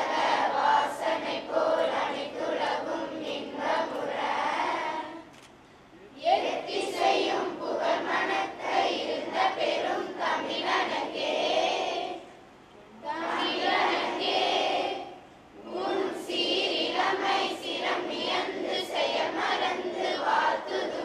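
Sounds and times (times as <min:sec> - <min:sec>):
children singing in unison: 0:00.0 - 0:05.3, 0:06.2 - 0:12.3, 0:13.0 - 0:21.0.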